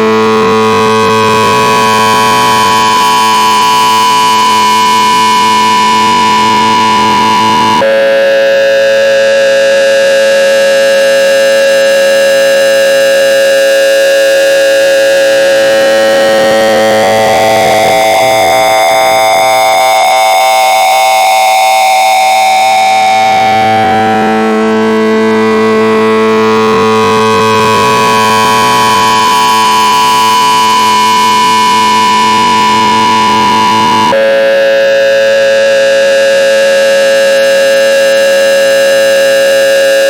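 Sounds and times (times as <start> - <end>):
harsh buzzy electronic tone: 0.0 - 40.0.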